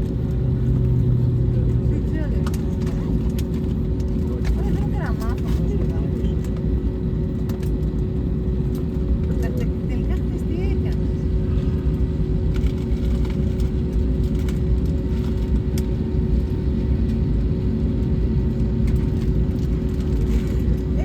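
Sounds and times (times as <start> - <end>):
constant hum: 0.0 - 21.0
low rumble of engines and wheels: 0.0 - 21.0.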